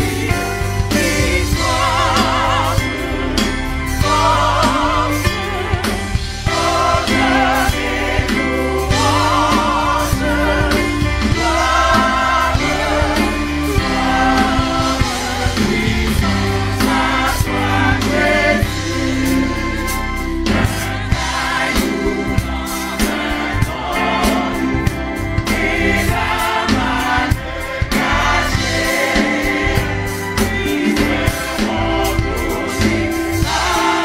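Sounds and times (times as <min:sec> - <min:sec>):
choir singing a hymn: 0:00.0 - 0:34.0
instrumental backing with steady beat: 0:00.0 - 0:34.0.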